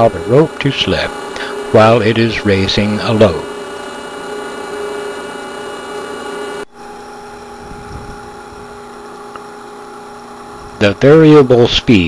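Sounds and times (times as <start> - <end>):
capstan winch humming and whining: 0.0 - 12.0.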